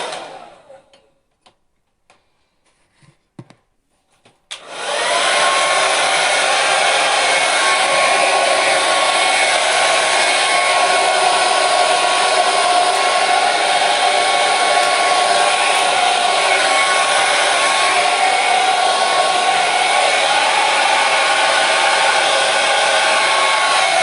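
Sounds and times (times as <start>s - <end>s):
hair dryer running: 0.0s - 0.9s, 4.5s - 24.0s.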